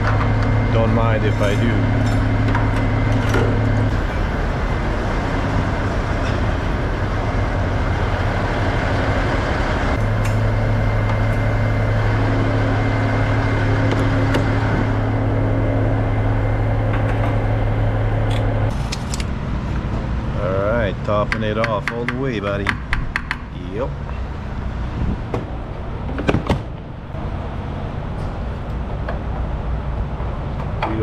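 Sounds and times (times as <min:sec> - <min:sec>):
diesel pump rushing: 0:00.0 - 0:31.0
low hum: 0:00.0 - 0:31.0.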